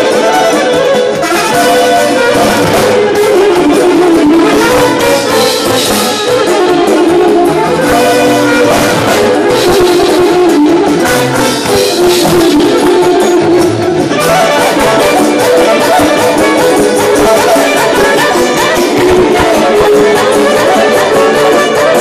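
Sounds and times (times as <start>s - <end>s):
accordion: 0.0s - 22.0s
drums: 0.0s - 22.0s
keyboards: 0.0s - 22.0s
violin: 0.0s - 22.0s.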